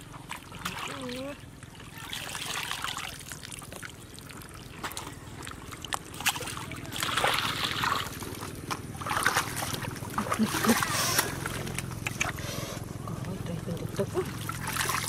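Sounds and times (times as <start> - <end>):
loud water splashes: 0.0 - 12.4, 14.0 - 15.0
water draining through basket: 0.0 - 12.4, 13.5 - 15.0
water sloshing and trickling: 0.0 - 15.0.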